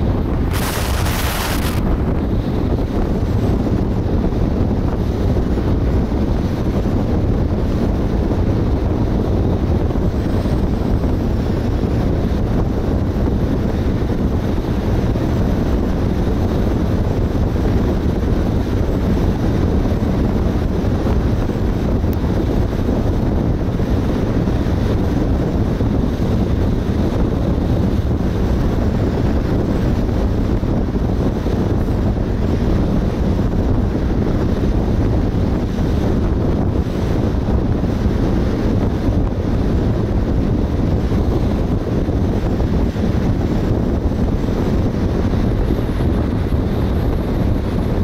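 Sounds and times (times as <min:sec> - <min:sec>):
road and tyre noise: 0:00.0 - 0:48.0
wind buffeting microphone: 0:00.0 - 0:48.0.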